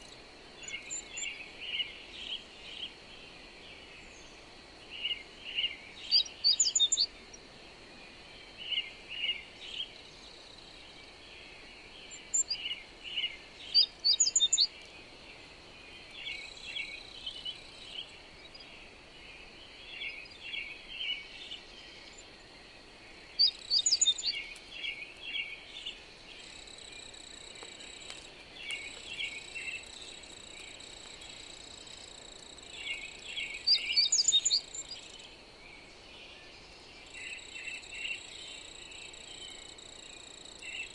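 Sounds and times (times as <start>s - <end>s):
birds chirping: 0.0s - 40.9s
soft even hiss: 0.0s - 40.9s.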